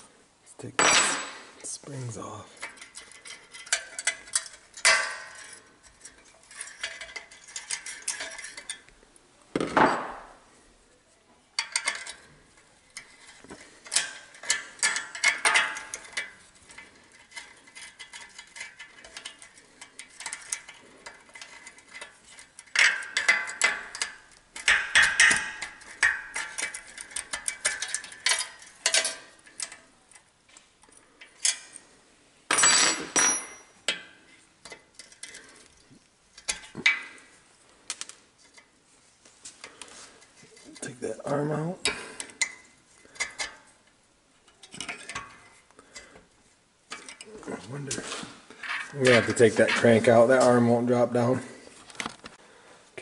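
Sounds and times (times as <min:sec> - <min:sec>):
metal engine parts clinking: 0:02.2 - 0:08.9, 0:11.6 - 0:31.9, 0:32.5 - 0:37.3, 0:39.6 - 0:46.2, 0:46.9 - 0:51.4.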